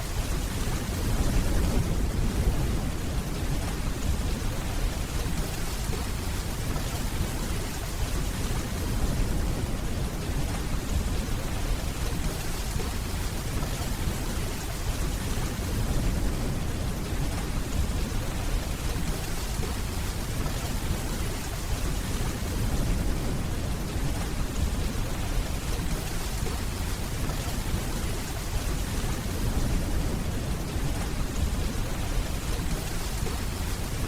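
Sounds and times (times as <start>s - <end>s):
steady rainfall: 0.0s - 34.0s.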